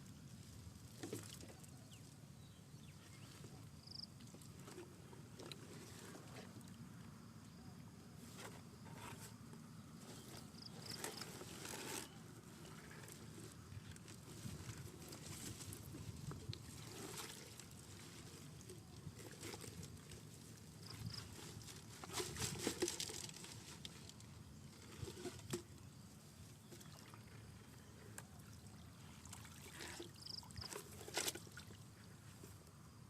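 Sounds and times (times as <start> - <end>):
water sloshing and trickling: 0.1 - 7.6, 8.2 - 32.5.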